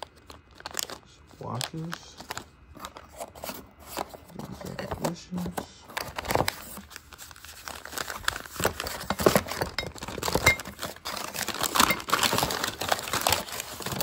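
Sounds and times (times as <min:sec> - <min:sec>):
packing paper rustling: 0:00.0 - 0:14.0.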